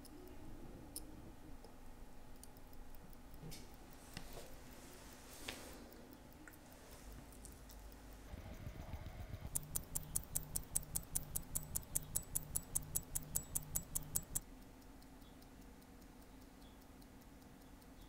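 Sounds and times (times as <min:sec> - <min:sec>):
faint hum: 0:00.0 - 0:18.0
watch ticking: 0:00.0 - 0:18.0.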